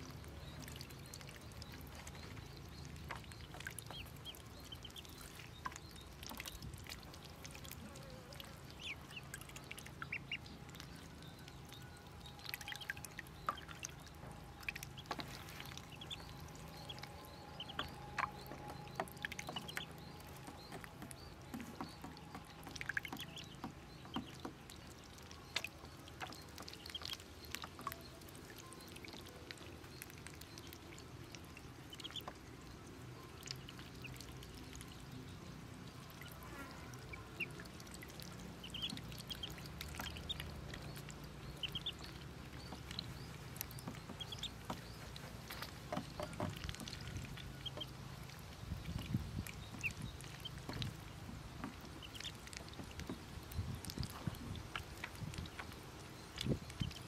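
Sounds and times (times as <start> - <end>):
ducklings peeping: 0.0 - 57.0
small water splashes: 0.0 - 57.0.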